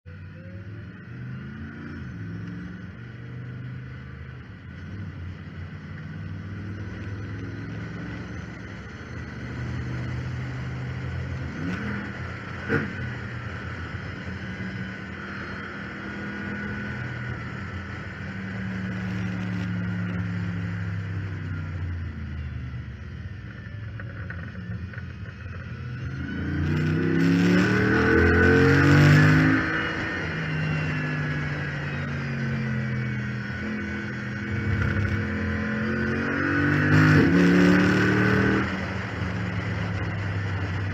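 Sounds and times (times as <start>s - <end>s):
car engine accelerating: 0.0s - 40.9s
high whine: 0.1s - 40.9s.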